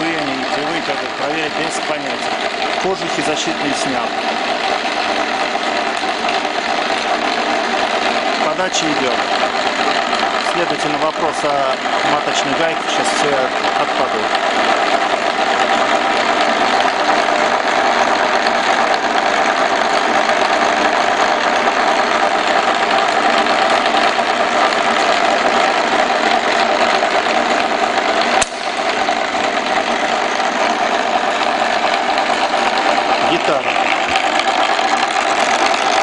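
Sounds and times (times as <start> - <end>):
lathe sharp click: 0.0 - 36.0
metal lathe running: 0.0 - 36.0.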